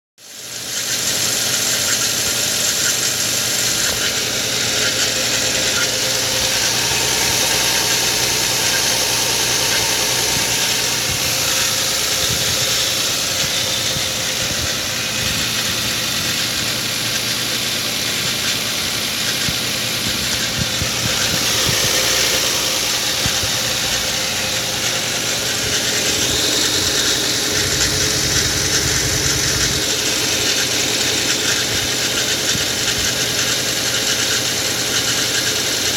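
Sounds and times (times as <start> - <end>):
car engine running: 0.2 - 35.9
strange engine noise: 0.2 - 35.9.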